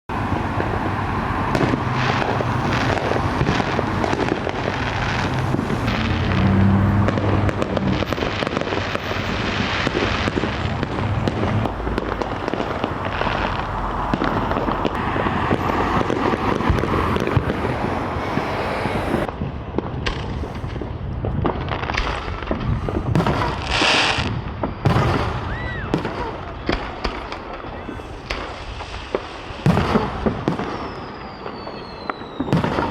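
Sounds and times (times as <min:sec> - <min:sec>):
fireworks bangs and crackling: 0:00.1 - 0:32.9.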